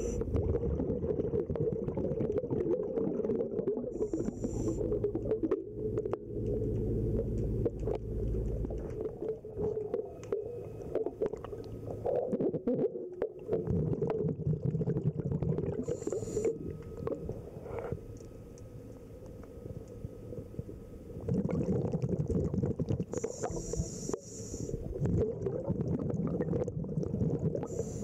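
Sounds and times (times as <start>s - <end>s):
low steady hum: 0.0s - 28.0s
muffled underwater rumble: 0.0s - 28.0s.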